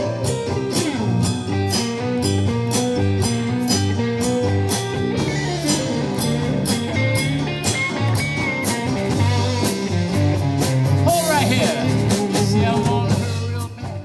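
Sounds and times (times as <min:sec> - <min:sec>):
bass guitar: 0:00.0 - 0:14.0
electric guitar: 0:00.0 - 0:14.0
steady drum beat: 0:00.0 - 0:14.0.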